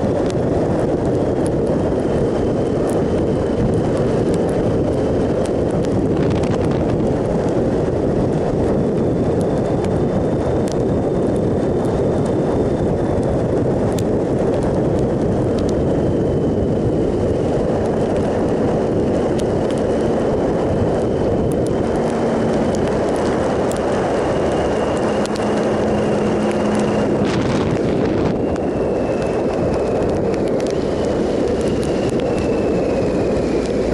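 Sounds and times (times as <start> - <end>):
motorcycle engine cruising: 0.0 - 33.9
wind rush over microphone: 0.0 - 33.9.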